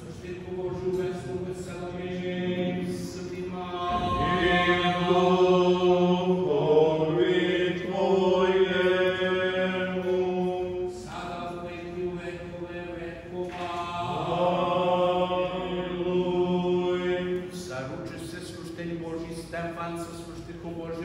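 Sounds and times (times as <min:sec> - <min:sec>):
liturgical chanting: 0:00.0 - 0:21.0.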